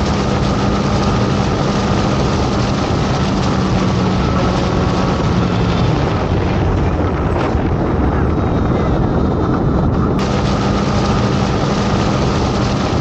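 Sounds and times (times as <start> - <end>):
motorcycle engine drone: 0.0 - 13.0
wind rush on microphone: 0.0 - 13.0.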